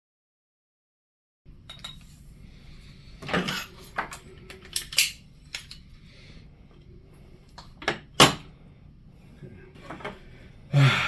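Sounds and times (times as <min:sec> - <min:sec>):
low steady background noise: 0:01.5 - 0:11.0.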